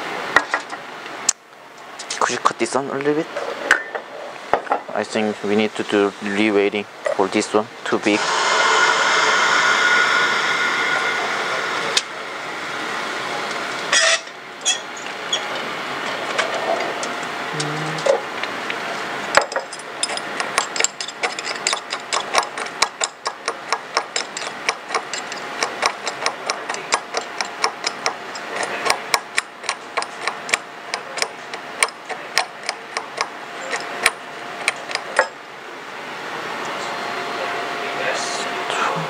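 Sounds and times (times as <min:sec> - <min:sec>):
room hum: 0:00.0 - 0:39.0.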